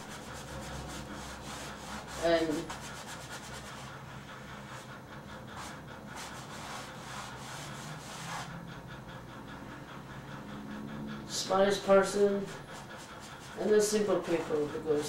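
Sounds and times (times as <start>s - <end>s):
paintbrush scrubbing on canvas: 0.0s - 8.7s, 11.4s - 15.0s
steady low hum: 0.0s - 15.0s.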